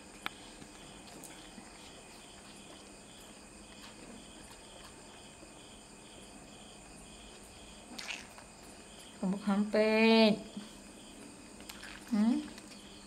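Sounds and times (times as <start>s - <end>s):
faint insect chirping: 0.0s - 13.0s.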